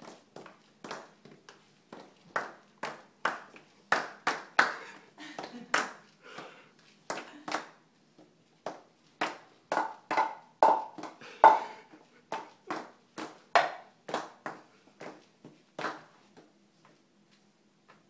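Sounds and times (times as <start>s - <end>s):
toddler footsteps on tile floor: 0.0s - 3.8s, 4.8s - 18.0s.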